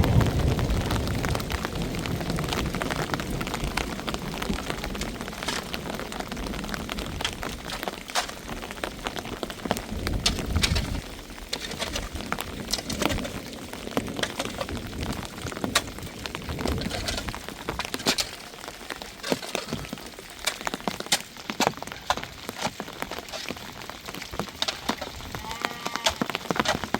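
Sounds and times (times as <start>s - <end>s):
rain drops falling: 0.0s - 26.9s.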